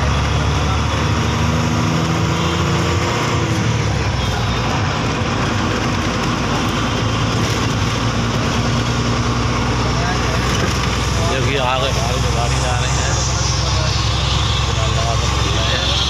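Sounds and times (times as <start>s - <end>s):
vehicle rumble and engine hum: 0.0s - 16.0s.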